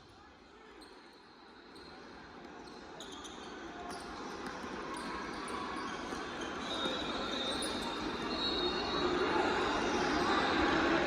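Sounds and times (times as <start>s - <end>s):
din of players and spectators: 0.0s - 11.0s.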